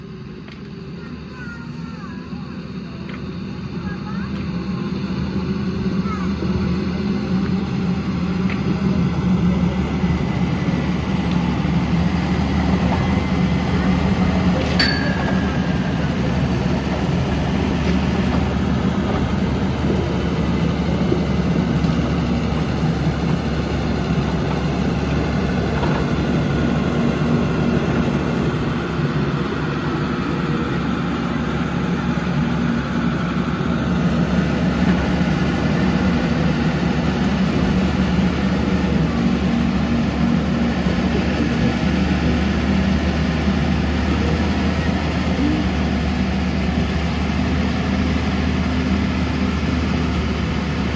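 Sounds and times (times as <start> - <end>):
diesel engine droning: 0.0 - 50.9.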